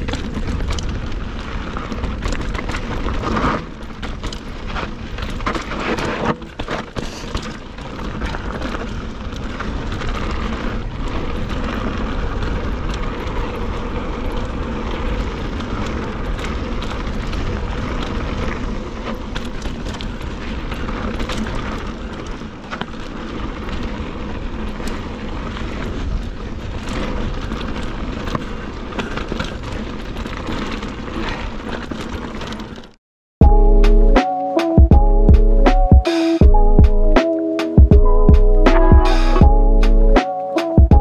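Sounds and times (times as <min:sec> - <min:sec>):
bike tyres crunching on dirt and stones: 0:00.0 - 0:33.0
stones and bike clicking and rattling: 0:00.0 - 0:33.0.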